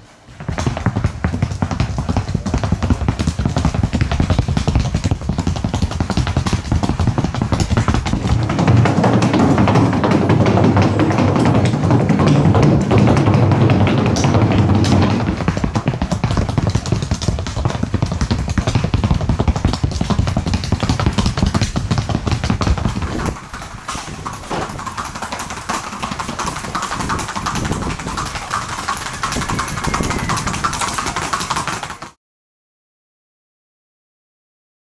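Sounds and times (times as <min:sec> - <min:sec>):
horse hooves clattering on boards: 0:00.3 - 0:32.2.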